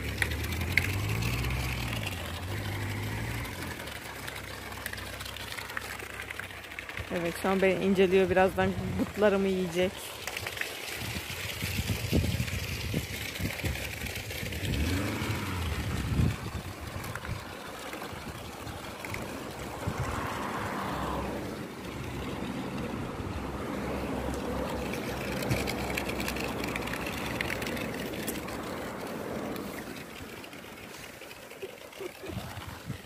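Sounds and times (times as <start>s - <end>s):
traffic passing: 0.0s - 33.0s.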